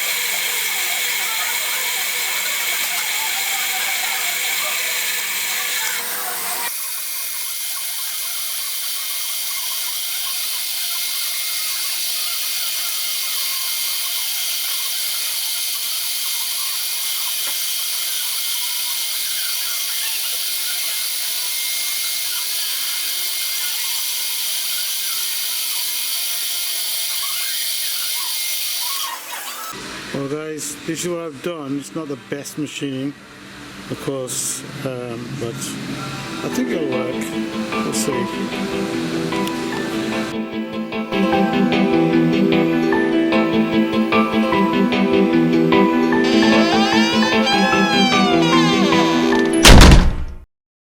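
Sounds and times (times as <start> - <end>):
small power tool cutting metal: 0.0 - 31.1, 35.4 - 49.8.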